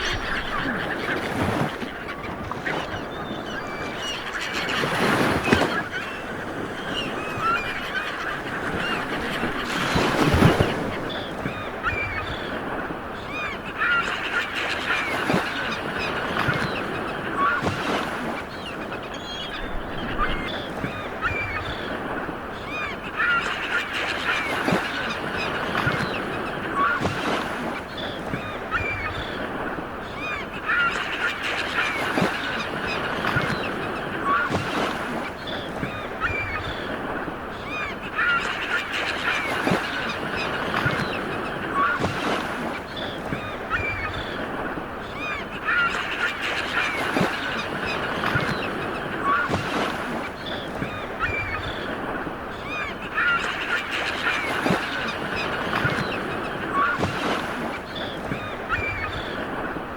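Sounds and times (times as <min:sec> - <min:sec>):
birds honking: 0:00.0 - 0:59.5
sea waves washing ashore: 0:00.0 - 0:59.9.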